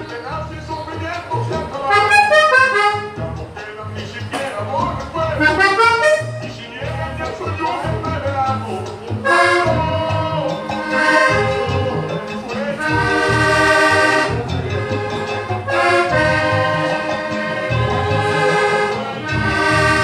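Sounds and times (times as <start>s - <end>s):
button accordion melody: 0.0s - 20.0s
pulsing bass accompaniment: 0.0s - 20.0s.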